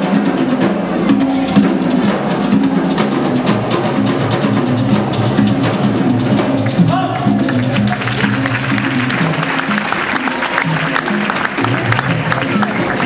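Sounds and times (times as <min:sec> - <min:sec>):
drums played in fast rhythm: 0:00.0 - 0:13.0.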